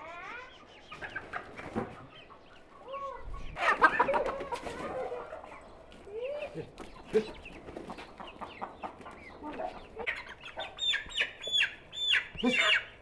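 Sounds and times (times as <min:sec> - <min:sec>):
chickens clucking: 0:00.0 - 0:13.0
chickens squawking: 0:00.0 - 0:13.0.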